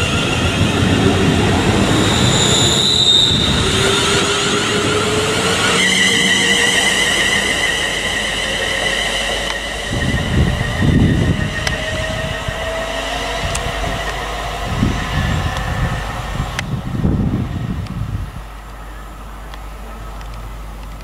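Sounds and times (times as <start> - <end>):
low rumbling surges: 0.0 - 20.8
train traction motors whining: 0.0 - 21.0
wheel and rail noise: 0.0 - 21.0.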